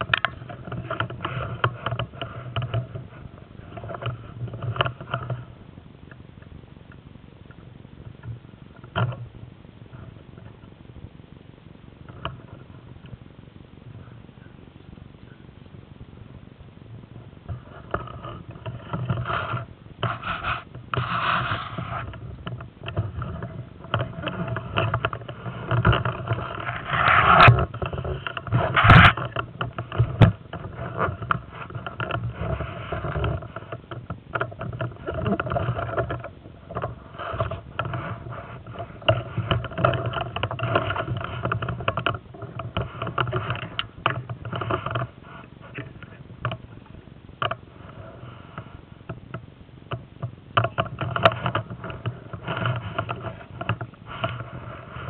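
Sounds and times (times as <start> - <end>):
rustling and scraping handling noise: 0.0 - 10.8, 16.9 - 55.0.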